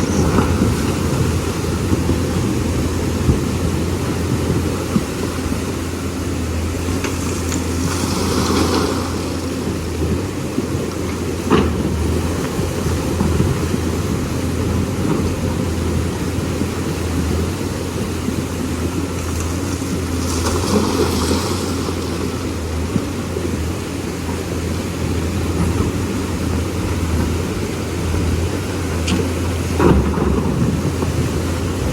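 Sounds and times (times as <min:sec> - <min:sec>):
excavator diesel engine humming: 0:00.0 - 0:31.9.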